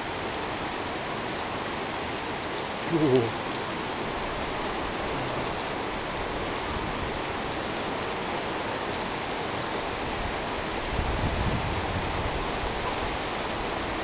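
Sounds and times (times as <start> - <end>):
heavy rain on pavement: 0.0 - 14.0.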